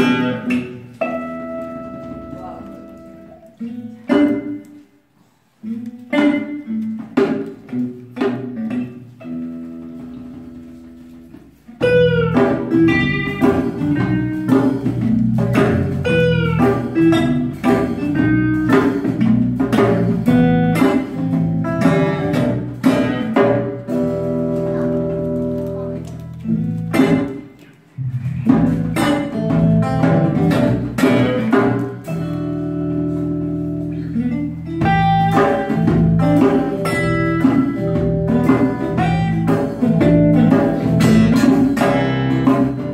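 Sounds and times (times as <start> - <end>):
bass guitar: 0.0 - 5.0, 5.6 - 42.9
acoustic guitars: 0.0 - 42.9.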